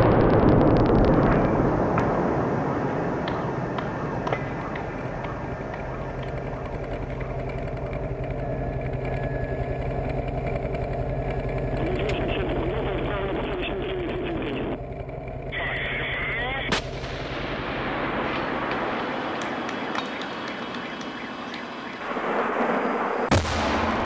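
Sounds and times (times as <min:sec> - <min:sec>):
loud rumble: 0:00.0 - 0:24.0
vehicle engine running: 0:01.4 - 0:22.7.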